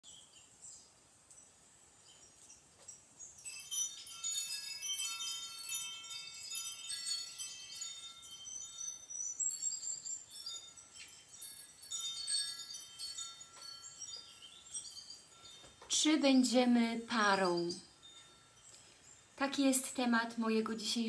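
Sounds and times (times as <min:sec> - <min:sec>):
wind chimes tinkling: 0:00.0 - 0:21.0.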